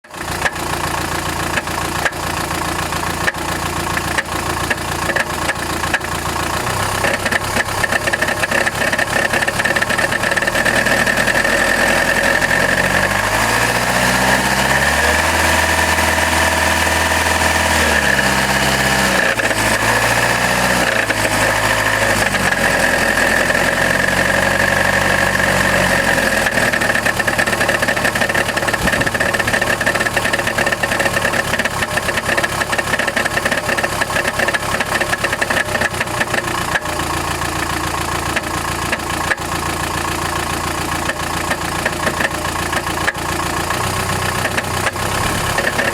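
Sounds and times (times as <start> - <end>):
diesel engine rattling: 0.0 - 45.9.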